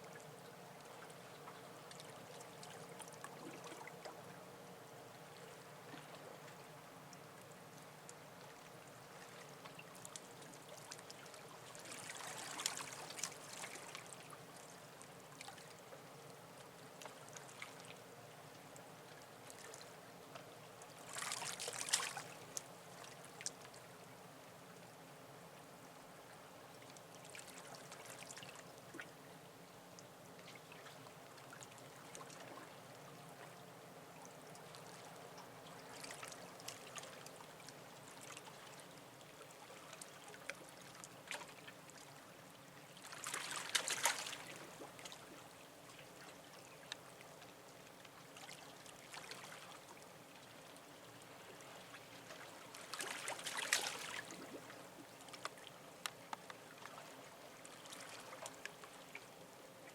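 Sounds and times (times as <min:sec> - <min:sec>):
seawater lapping and splashing: 0:00.0 - 0:24.3, 0:26.0 - 0:59.9.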